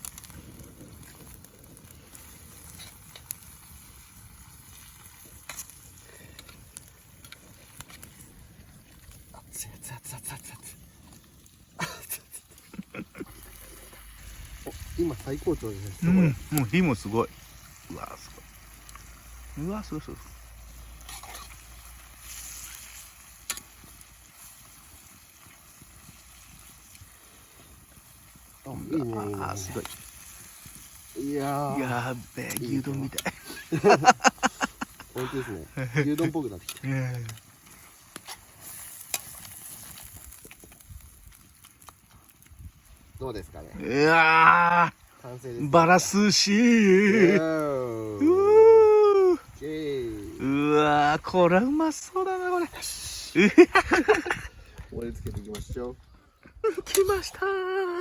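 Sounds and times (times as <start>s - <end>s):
meat sizzling in a frying pan: 0.0s - 55.4s.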